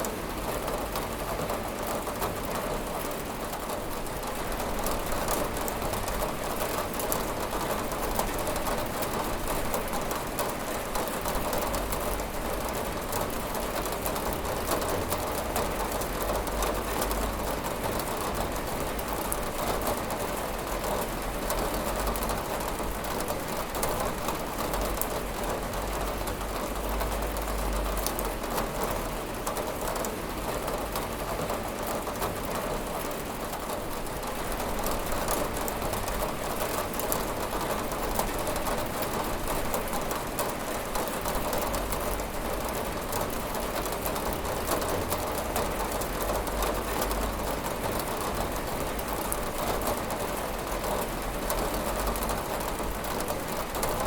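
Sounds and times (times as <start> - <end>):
rain on window glass: 0.0 - 54.0.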